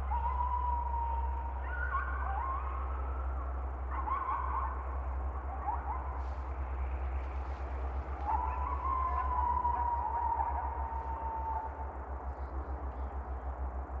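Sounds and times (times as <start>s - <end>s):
coyote howling and yipping: 0.0s - 13.3s.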